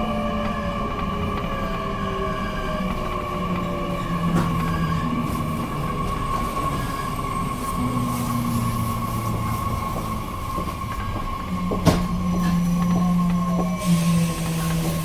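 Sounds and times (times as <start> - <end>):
train electrical whine and hum: 0.0 - 15.0.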